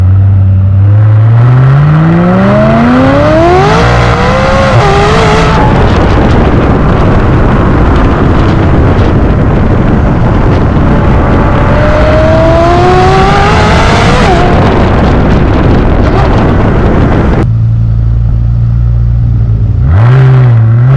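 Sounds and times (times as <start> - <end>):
dense rushing noise: 0.0 - 20.8
sports car accelerating hard: 0.3 - 17.4.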